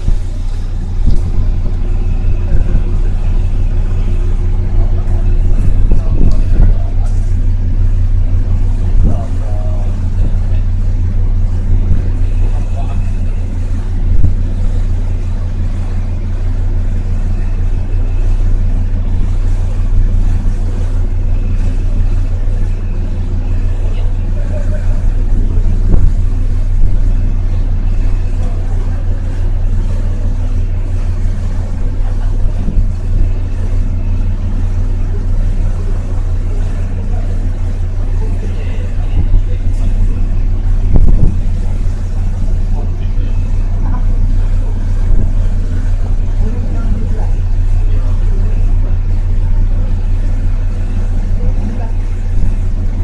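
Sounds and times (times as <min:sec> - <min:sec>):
ferry engines droning: 0:00.0 - 0:53.0.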